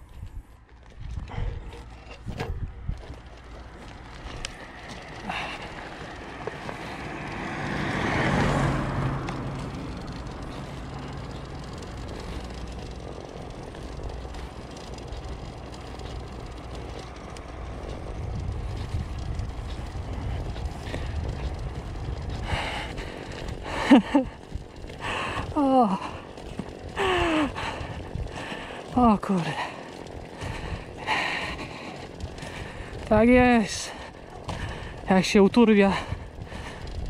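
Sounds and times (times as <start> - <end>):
vehicle approaching: 0.0 - 37.0
car passing: 1.3 - 37.0.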